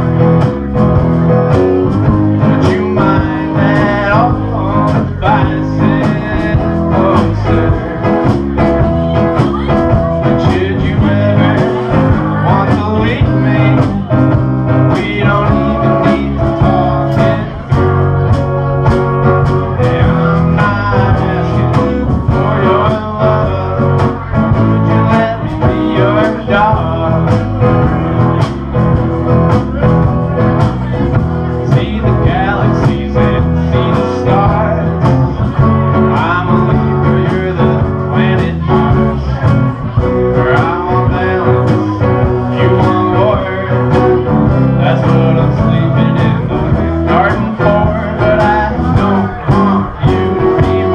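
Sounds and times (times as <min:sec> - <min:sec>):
guitar strumming: 0:00.0 - 0:50.9
man singing: 0:00.0 - 0:50.9.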